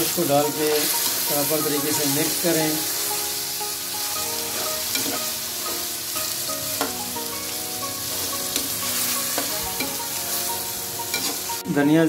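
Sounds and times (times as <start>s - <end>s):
meat sizzling in hot oil: 0.0s - 11.9s.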